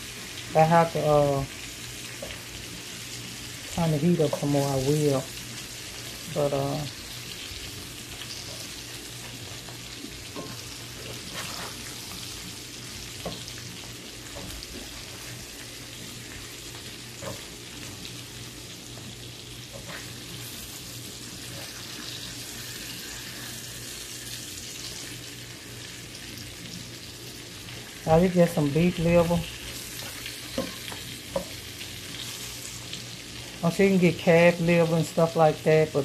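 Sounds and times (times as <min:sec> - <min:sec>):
food sizzling in oil: 0:00.0 - 0:36.0.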